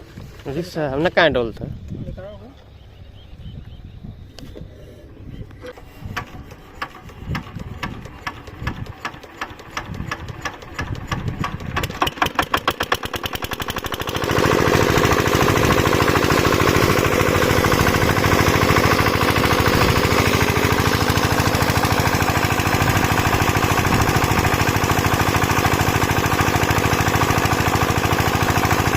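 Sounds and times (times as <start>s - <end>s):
water pump engine running: 5.6s - 28.9s.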